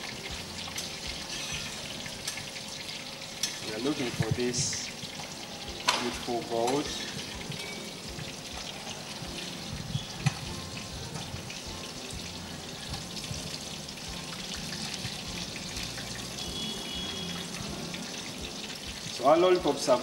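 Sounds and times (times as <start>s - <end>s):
hot oil sizzling: 0.0s - 20.0s.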